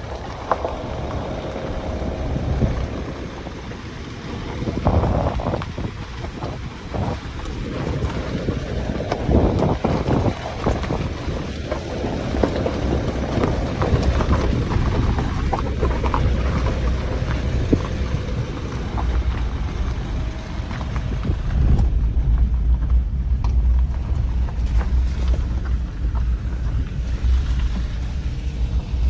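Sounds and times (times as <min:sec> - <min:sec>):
vehicle low rumble: 0:00.0 - 0:29.0
wind buffeting microphone: 0:00.0 - 0:29.0.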